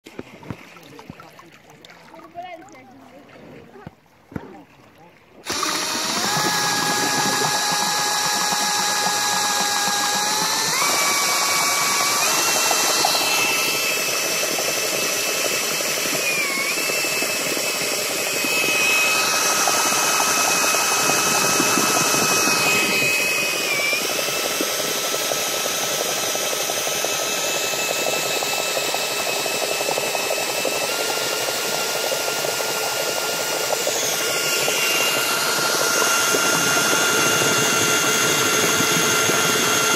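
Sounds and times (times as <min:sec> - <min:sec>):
cordless drill motor whining: 0:05.4 - 0:39.9.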